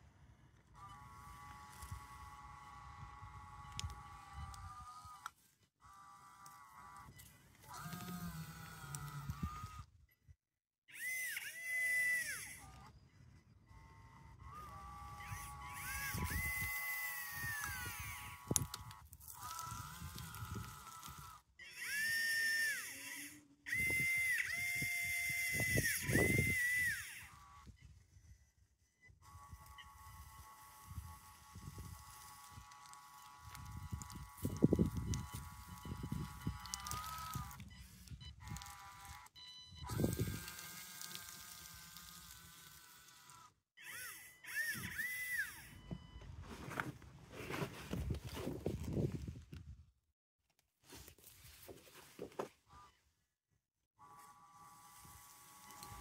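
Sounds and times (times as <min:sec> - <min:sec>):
electric motors whining: 0:00.1 - 0:10.1, 0:10.9 - 0:49.6, 0:54.0 - 0:56.0.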